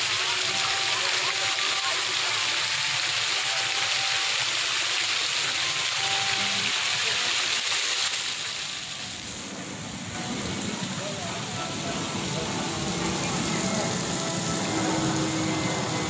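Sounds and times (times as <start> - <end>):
fountain jet splashing water: 0.0 - 16.0.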